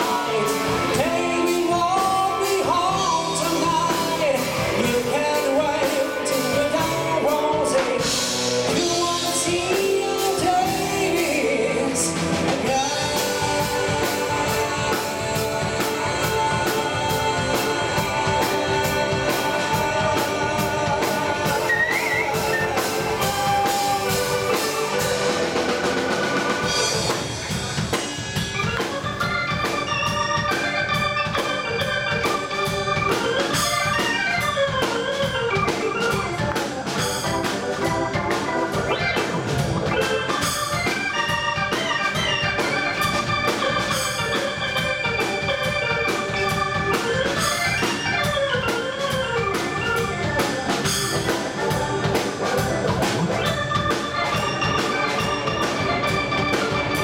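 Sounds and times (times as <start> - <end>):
bass guitar: 0.0 - 57.0
drums: 0.0 - 57.0
keyboard lead melody: 0.0 - 57.0.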